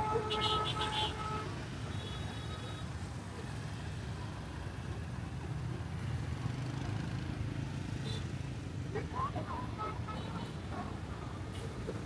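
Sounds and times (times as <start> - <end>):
city road traffic rumble: 0.0 - 12.0.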